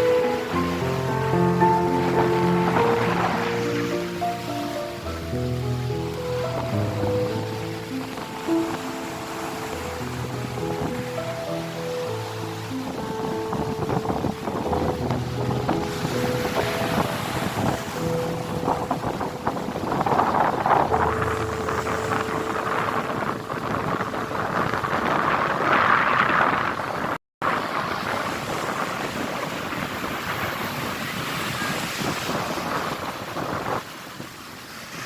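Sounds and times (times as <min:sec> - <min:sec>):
surf on beach: 0:00.0 - 0:35.0
wind buffeting microphone: 0:00.0 - 0:35.0.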